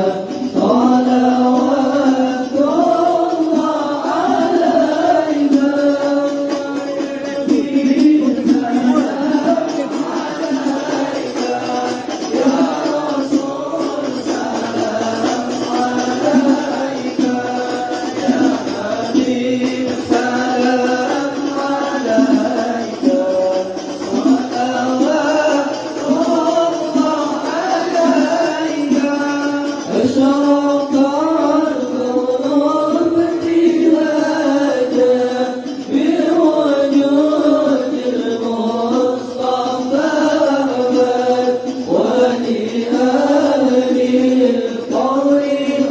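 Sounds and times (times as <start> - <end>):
group singing in unison: 0.0 - 45.9.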